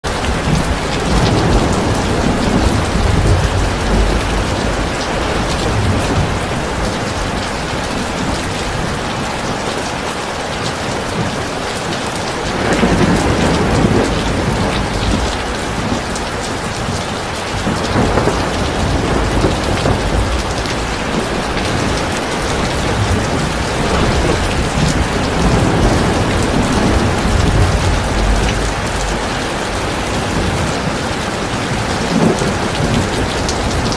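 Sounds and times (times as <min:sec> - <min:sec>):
thunder rumbling: 0:00.0 - 0:09.9, 0:12.4 - 0:33.9
heavy rain pouring: 0:00.0 - 0:33.9.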